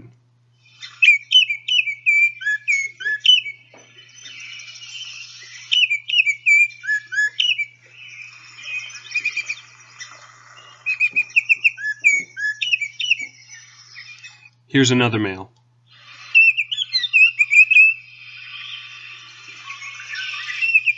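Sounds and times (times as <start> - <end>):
bird whistled song: 0.5 - 14.7, 15.9 - 20.9
faint bird chattering: 0.6 - 20.9.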